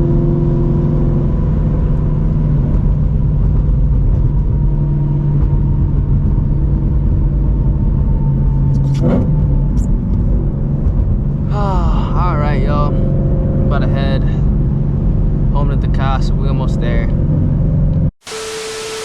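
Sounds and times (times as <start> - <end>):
car exhaust droning: 0.0 - 19.0.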